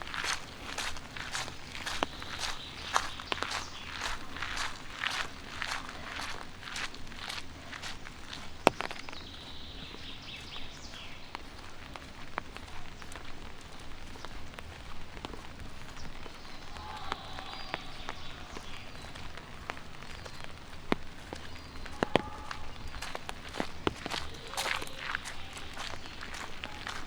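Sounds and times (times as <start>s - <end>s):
light rain on pavement: 0.0s - 27.0s
sharp drips and taps: 0.0s - 27.0s.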